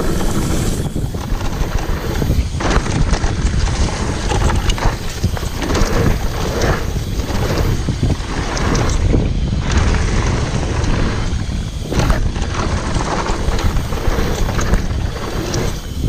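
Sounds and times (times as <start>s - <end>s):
bike rattling: 0.0s - 16.0s
wind buffeting microphone: 0.0s - 16.0s.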